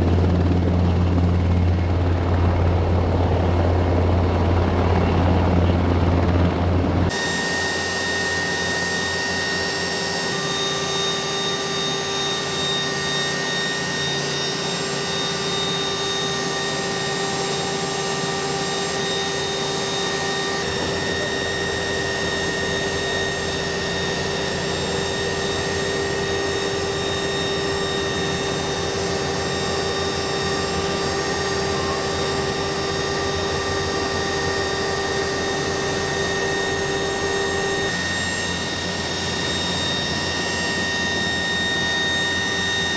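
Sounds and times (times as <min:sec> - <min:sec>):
helicopter rotor rushing: 0:00.0 - 0:42.9
helicopter turbine whine: 0:00.0 - 0:42.9.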